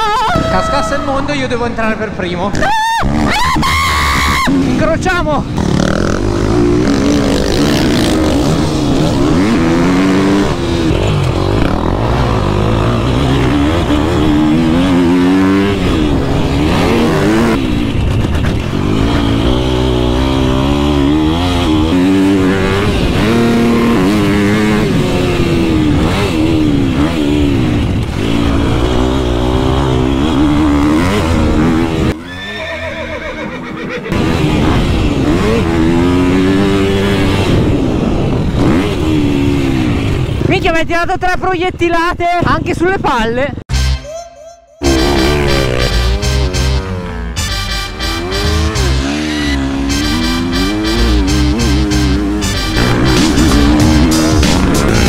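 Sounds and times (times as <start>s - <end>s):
motocross bike engine revving: 2.5s - 40.5s, 44.8s - 55.0s.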